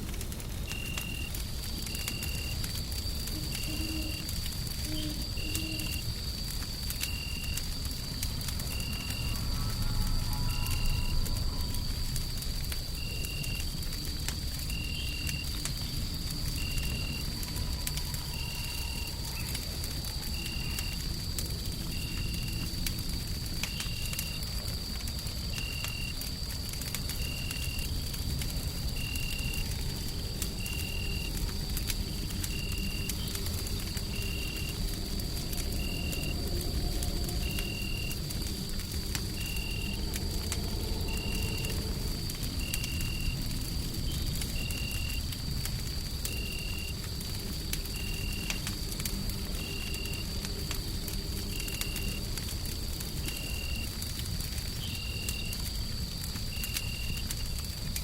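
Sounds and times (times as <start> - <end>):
low rumble of white noise: 0.0 - 55.0
constant high whine: 0.0 - 58.0
crackling wood fire: 0.0 - 58.0.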